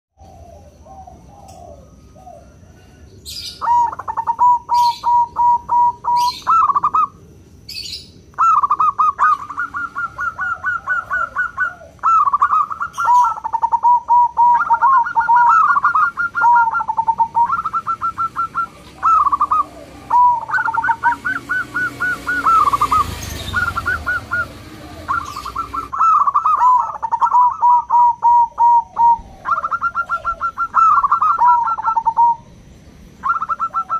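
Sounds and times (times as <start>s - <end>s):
dove cooing: 0.2s - 7.2s, 7.8s - 32.6s, 33.2s - 33.9s.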